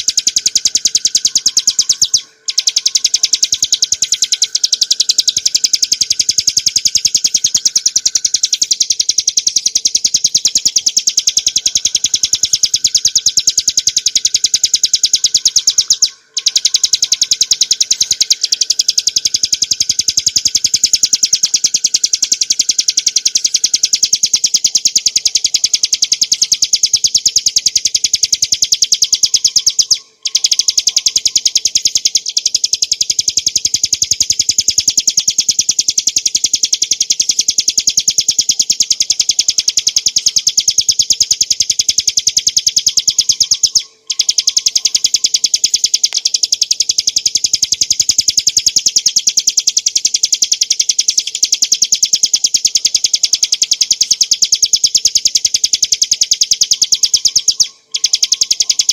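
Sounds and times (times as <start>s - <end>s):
bird singing high repeated notes: 0.0s - 58.9s.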